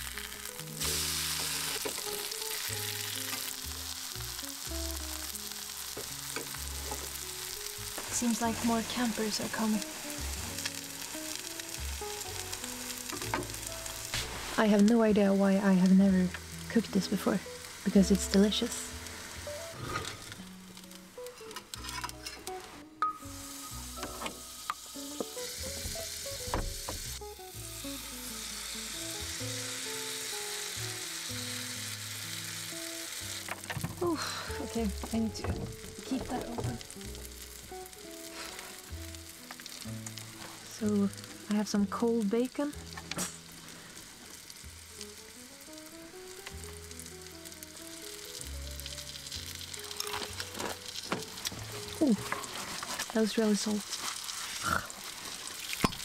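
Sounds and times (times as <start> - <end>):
soft background music: 0.0 - 55.4
fat sizzling in a frying pan: 0.0 - 56.0.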